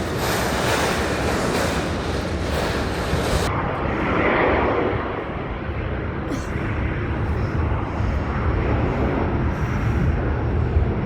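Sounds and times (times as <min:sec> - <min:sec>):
jet engine rumble and hiss: 0:00.0 - 0:11.0.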